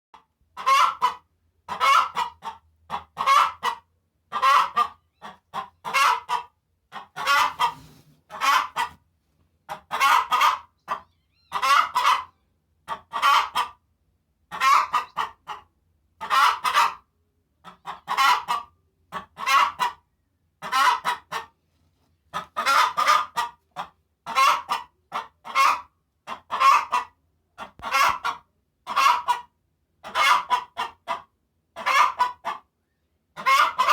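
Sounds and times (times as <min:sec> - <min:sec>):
hen cackling: 0:00.6 - 0:09.0, 0:09.7 - 0:13.8, 0:14.5 - 0:21.5, 0:22.3 - 0:32.7, 0:33.4 - 0:33.9.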